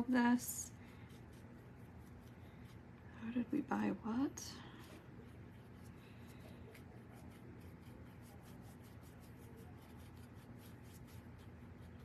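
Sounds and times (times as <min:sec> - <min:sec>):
low steady hum: 0:00.0 - 0:12.0
paint brush strokes: 0:00.0 - 0:12.0.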